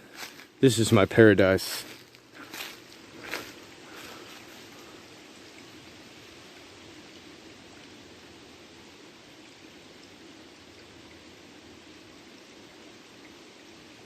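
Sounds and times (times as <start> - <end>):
faint creek water running: 0.0 - 14.0.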